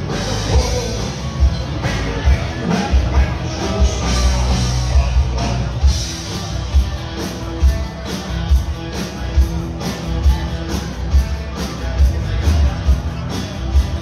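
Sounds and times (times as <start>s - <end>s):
country band playing: 0.0s - 14.0s.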